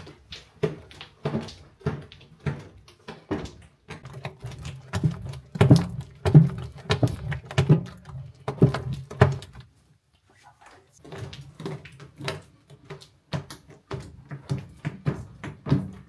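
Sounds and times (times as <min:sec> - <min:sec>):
wooden paddle slapping mixture: 0:00.0 - 0:16.0.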